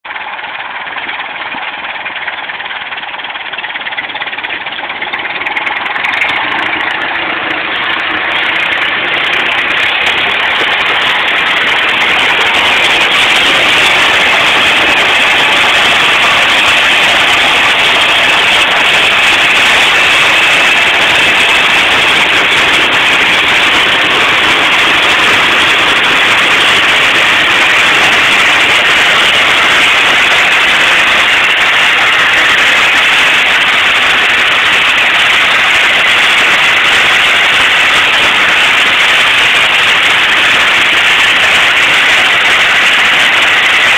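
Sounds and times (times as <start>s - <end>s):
tractor engines and harvester working: 0.1s - 43.9s.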